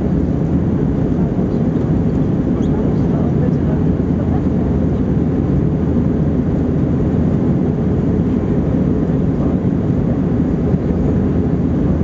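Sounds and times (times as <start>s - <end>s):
airflow over fuselage: 0.0s - 12.0s
jet engines roaring in cabin: 0.0s - 12.0s.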